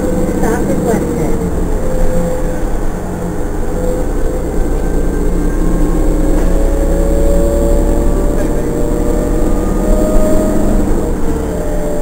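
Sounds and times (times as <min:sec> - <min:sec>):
bus engine humming: 0:00.0 - 0:12.0
faint rising whine: 0:00.0 - 0:12.0.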